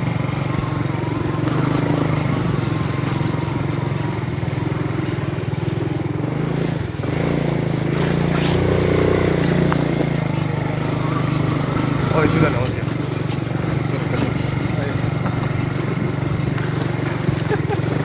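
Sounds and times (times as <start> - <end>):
motorcycle engine at low revs: 0.0 - 18.0.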